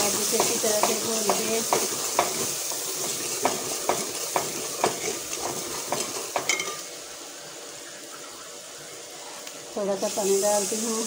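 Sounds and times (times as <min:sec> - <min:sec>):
masala sizzling in oil: 0:00.0 - 0:11.0.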